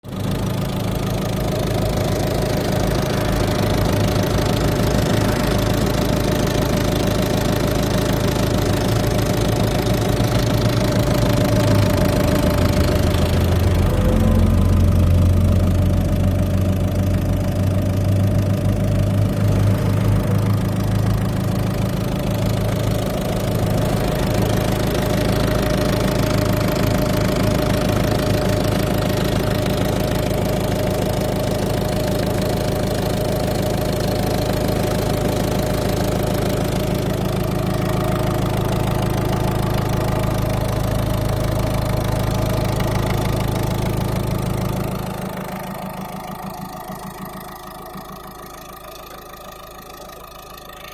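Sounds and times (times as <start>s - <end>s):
diesel engine idling: 0.0s - 50.9s
engine knocking: 0.0s - 50.9s.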